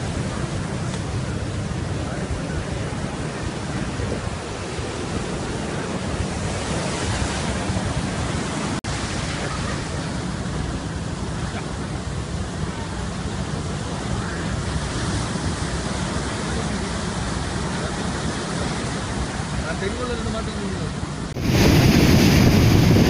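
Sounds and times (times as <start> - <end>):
surf breaking on shore: 0.0 - 23.0.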